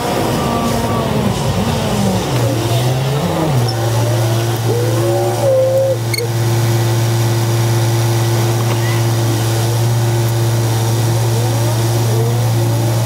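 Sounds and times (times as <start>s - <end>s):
bus engine: 0.0s - 13.0s.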